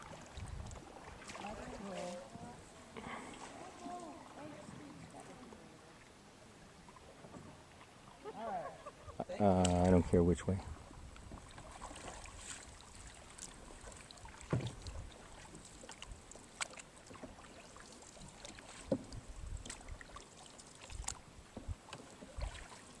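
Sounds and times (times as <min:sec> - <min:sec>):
paddle strokes in water: 0:00.0 - 0:23.0.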